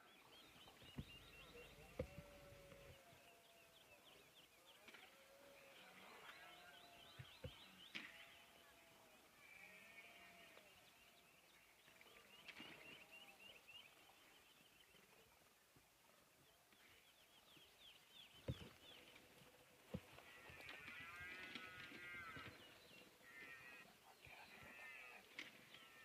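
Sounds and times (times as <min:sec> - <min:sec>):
small birds chirping: 0:00.0 - 0:15.3, 0:16.5 - 0:26.0.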